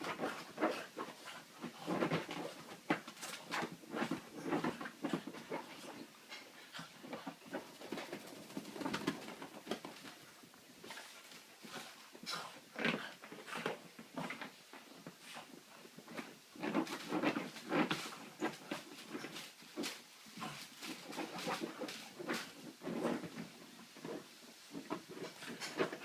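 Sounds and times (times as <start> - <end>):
dog scuffling: 0.0 - 6.1, 6.7 - 26.0.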